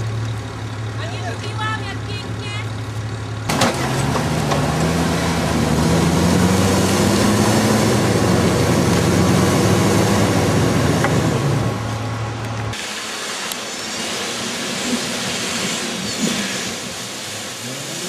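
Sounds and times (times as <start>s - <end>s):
pickup engine running under load: 0.0s - 18.0s.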